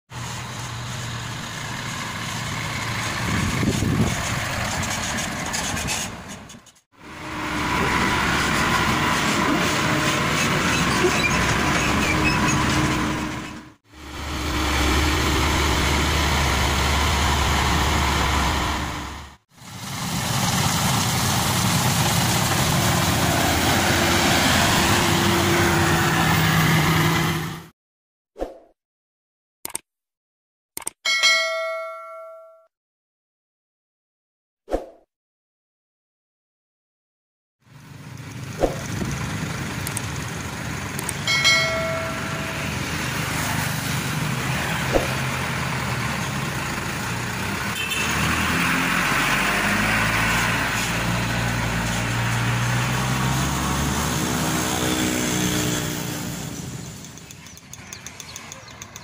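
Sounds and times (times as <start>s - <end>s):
diesel engines running: 0.1s - 27.7s, 37.7s - 59.0s.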